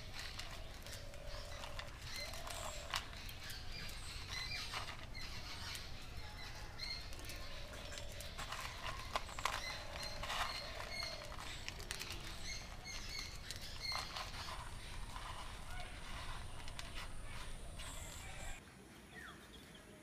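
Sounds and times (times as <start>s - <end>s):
biscuits cracking and crunching: 0.0s - 18.6s
birds chirping: 0.0s - 20.0s.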